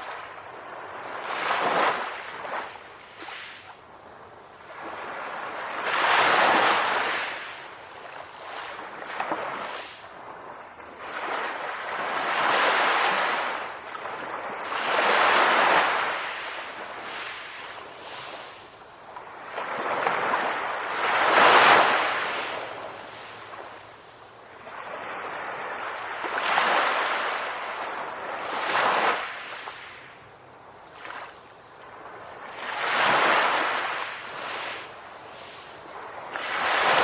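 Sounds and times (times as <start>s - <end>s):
ocean waves breaking: 4.7s - 30.2s, 30.9s - 37.0s.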